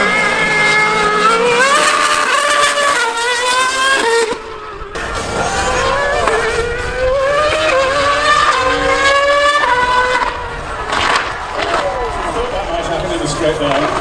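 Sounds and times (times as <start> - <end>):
racing engine accelerating: 0.0 - 14.0.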